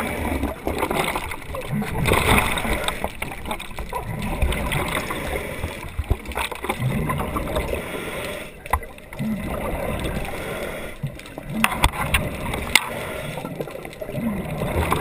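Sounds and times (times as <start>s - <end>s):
underwater gurgling bubbles: 0.0s - 15.0s.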